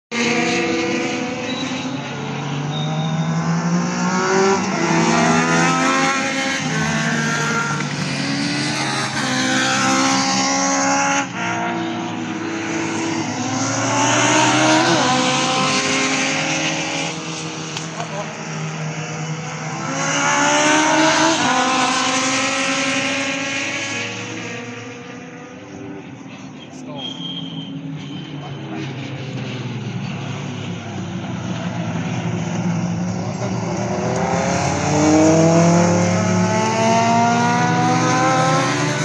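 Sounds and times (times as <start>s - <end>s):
race cars racing past: 0.1s - 39.0s.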